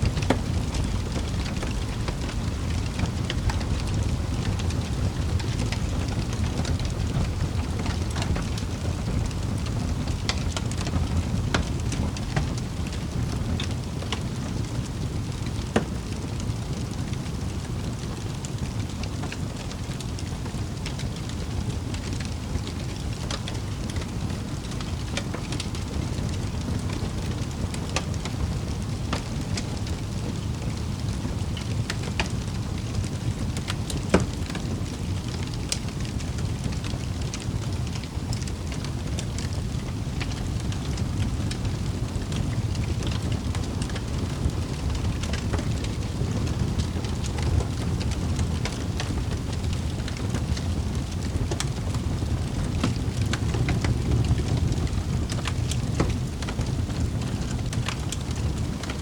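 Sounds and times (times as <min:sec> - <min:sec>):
fire crackles and pops: 0:00.0 - 0:59.0
wood fire low rumble: 0:00.0 - 0:59.0.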